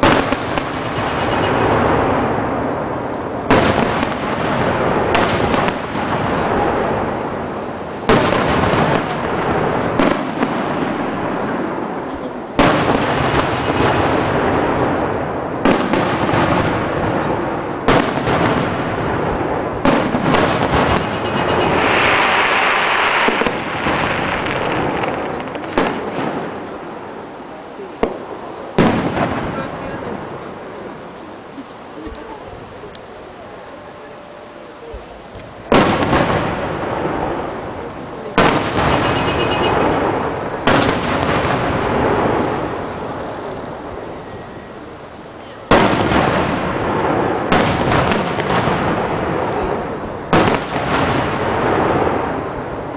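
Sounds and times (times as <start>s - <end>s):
fireworks booming with echo: 0.0s - 52.9s
fireworks crackling: 0.0s - 52.9s.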